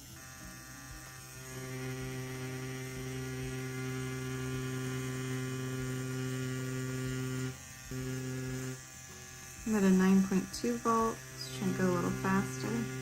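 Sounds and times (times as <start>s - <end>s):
tattoo pen electric hum: 0.0s - 13.0s.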